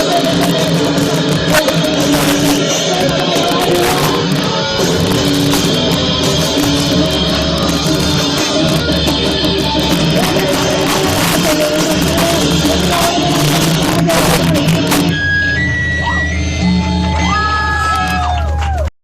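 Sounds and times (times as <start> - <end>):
heavy rock band playing loud: 0.0 - 18.2.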